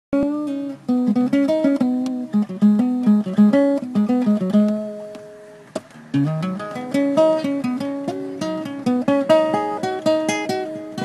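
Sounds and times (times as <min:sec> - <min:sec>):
blues guitar playing: 0:00.2 - 0:11.0.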